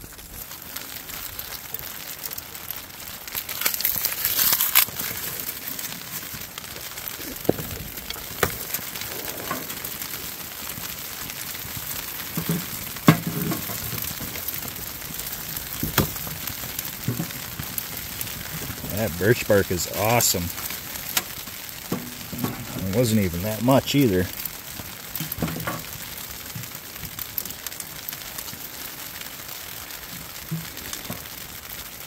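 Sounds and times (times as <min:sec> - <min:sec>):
wood fire crackling and hissing: 0:00.0 - 0:32.0.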